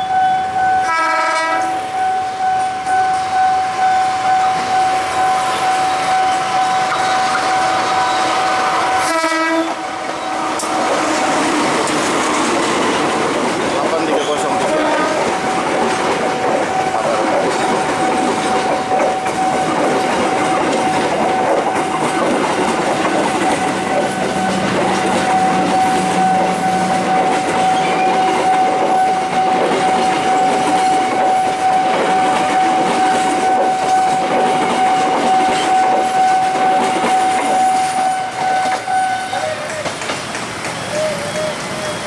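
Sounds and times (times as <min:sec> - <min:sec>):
level crossing warning tone: 0:00.0 - 0:11.6, 0:16.4 - 0:39.7
train wheels clacking over rail joints: 0:06.1 - 0:42.0.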